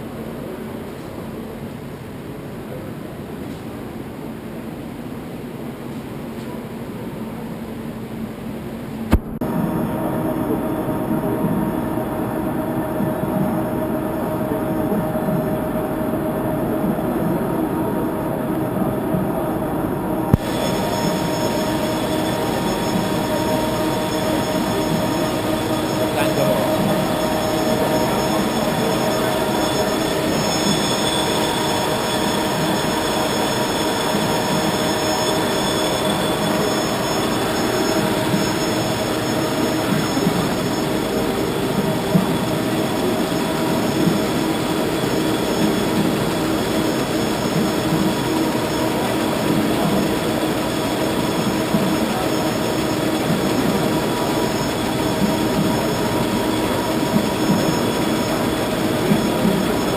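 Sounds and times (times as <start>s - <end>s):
held whining tones: 9.2s - 59.9s
printing press running: 9.4s - 59.9s.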